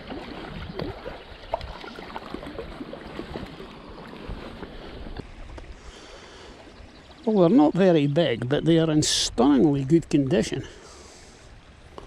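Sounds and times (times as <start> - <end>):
stream flowing and gurgling: 0.0 - 12.0.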